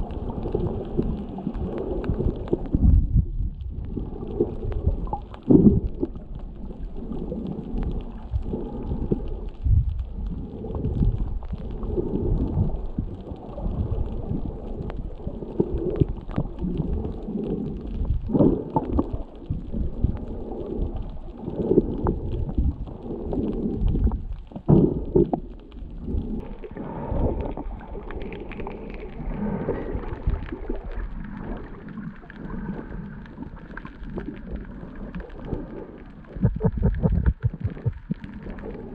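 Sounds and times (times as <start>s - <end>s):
muffled underwater rumble: 0.0s - 38.9s.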